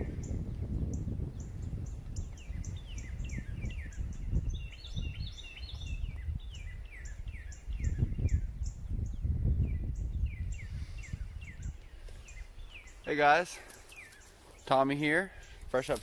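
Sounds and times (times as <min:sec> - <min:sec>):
low gusty rumble: 0:00.0 - 0:13.0
bird singing busy high notes: 0:00.0 - 0:16.0
birds chirping: 0:00.0 - 0:16.0.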